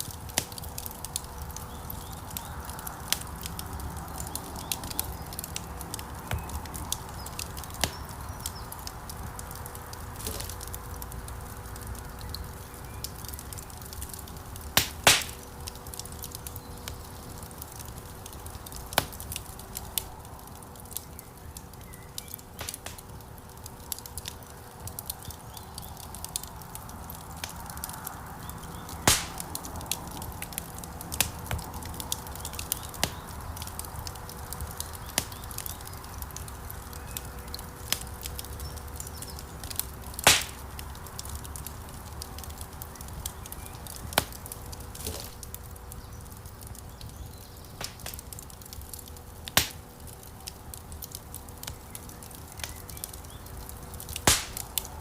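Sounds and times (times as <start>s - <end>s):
fire crackling: 0.0s - 55.0s
flames rushing: 0.0s - 55.0s
loud fire pops: 0.0s - 55.0s.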